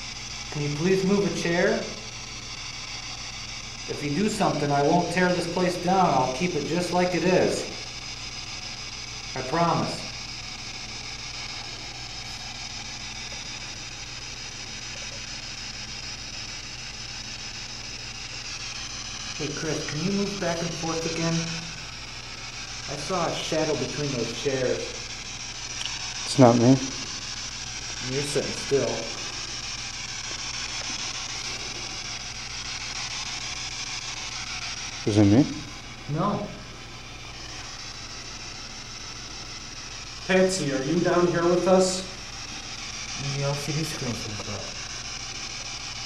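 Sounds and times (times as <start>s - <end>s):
low electrical hum: 0.0s - 46.0s
steady hiss: 0.0s - 46.0s.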